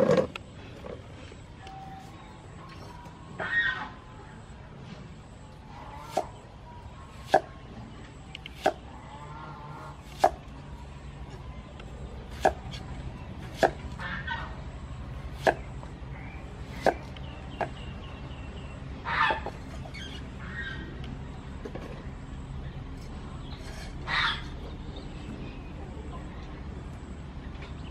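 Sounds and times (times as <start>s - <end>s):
birds calling: 0.0s - 26.3s.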